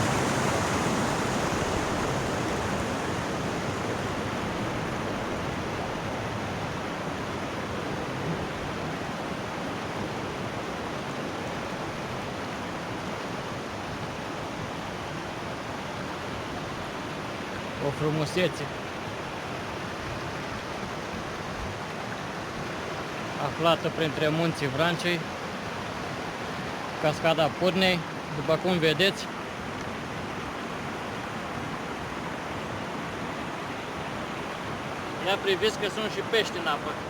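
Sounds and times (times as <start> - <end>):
waterfall rushing: 0.0 - 11.0, 15.2 - 37.0.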